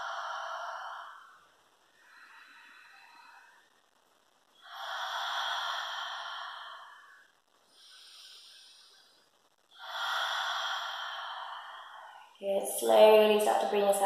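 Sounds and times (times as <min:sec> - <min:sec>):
woman breathing out deeply: 0:00.0 - 0:03.7, 0:04.6 - 0:12.4.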